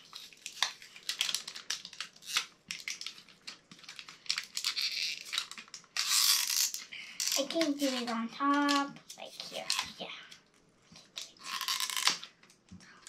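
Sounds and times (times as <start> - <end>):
plastic wrapping crinkling and tearing: 0.0 - 12.6.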